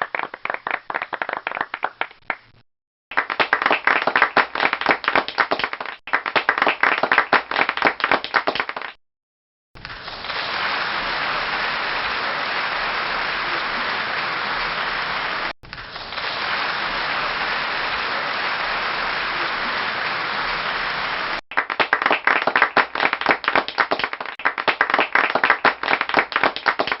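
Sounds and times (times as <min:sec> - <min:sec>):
crowd applause: 0:00.0 - 0:02.4, 0:03.1 - 0:09.0, 0:09.9 - 0:27.0.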